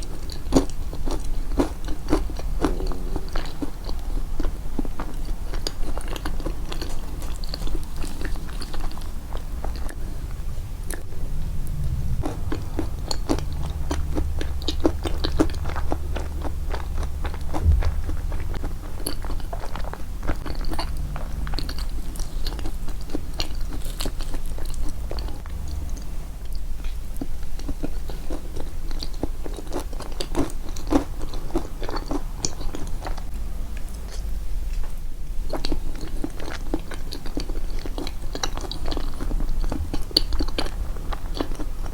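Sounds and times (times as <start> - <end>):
chewing and biting cake: 0.0 - 10.0, 11.9 - 34.3, 35.4 - 41.9.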